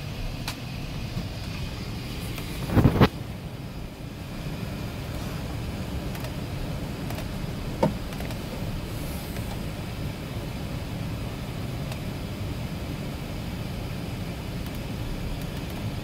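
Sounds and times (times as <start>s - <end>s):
aircraft cabin rumble and hiss: 0.0s - 16.0s.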